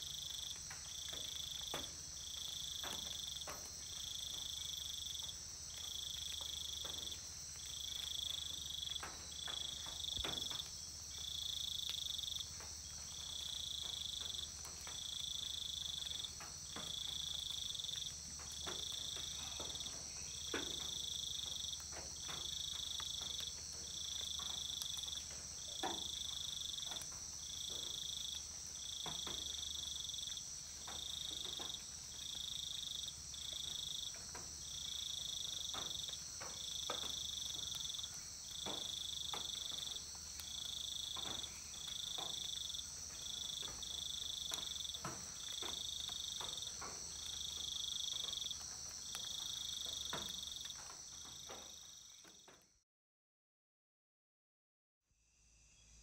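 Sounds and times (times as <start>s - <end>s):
insect chirring call: 0.0s - 52.7s, 55.2s - 56.0s.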